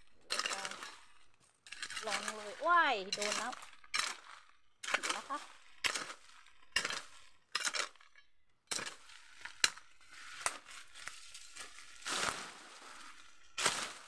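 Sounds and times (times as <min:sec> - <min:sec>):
chopping dry stalks: 0:00.0 - 0:14.0
rustling and scraping: 0:00.0 - 0:14.0.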